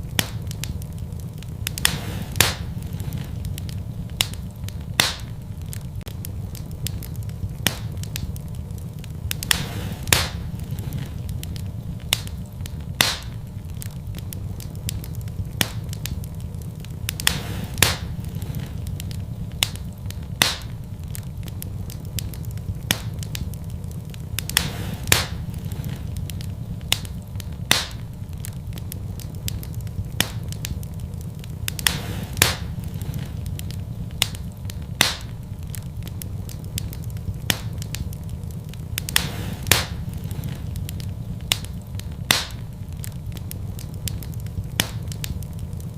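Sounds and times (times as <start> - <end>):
low rumble: 0.0 - 45.9
wood fire crackling and popping: 0.0 - 45.9.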